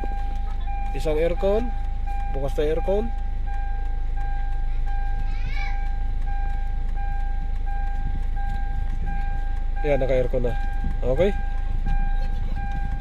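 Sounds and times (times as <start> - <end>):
diesel engine idling: 0.0 - 13.0
electronic warning chime beeping: 0.0 - 13.0.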